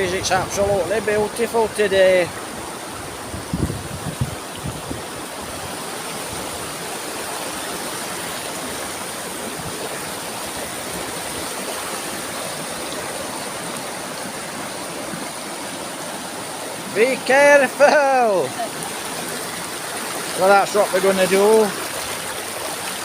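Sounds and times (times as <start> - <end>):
fast river current: 0.0 - 23.0
small waterfall rushing: 0.0 - 23.0.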